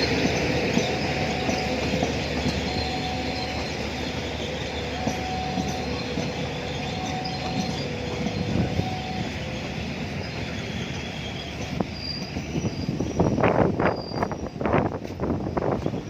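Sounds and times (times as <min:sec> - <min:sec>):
wheels squealing: 0:00.0 - 0:14.9
train cars rumbling on rails: 0:00.0 - 0:16.0.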